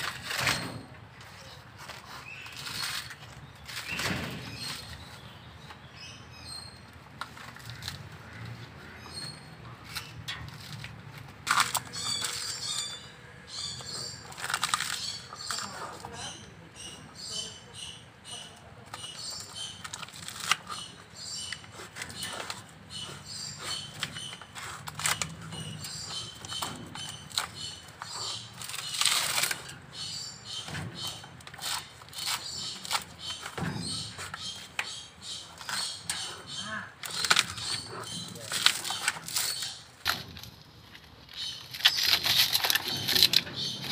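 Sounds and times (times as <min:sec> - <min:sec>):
bear gnawing coconut husk: 0:00.0 - 0:43.9.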